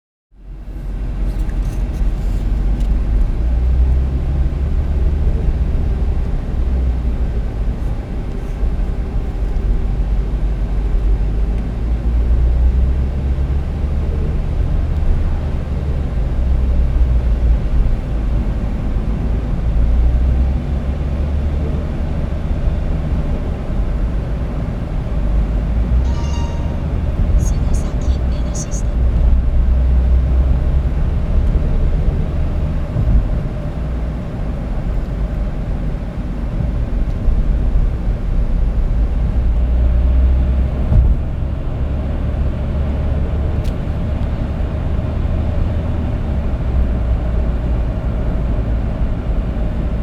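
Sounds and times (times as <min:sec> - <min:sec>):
car engine rumble: 0:00.4 - 0:50.0
road noise: 0:00.4 - 0:50.0.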